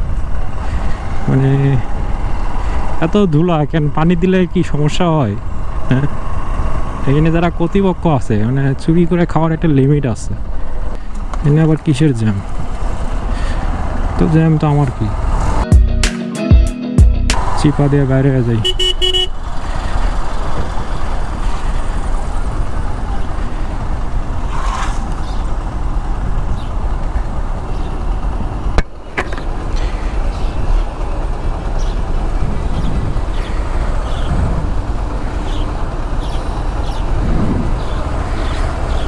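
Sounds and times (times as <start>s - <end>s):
motorcycle engine: 0.0s - 15.6s, 17.4s - 39.0s
traffic vehicles: 0.0s - 15.7s, 17.0s - 39.0s
road noise: 0.0s - 16.0s, 16.8s - 39.0s.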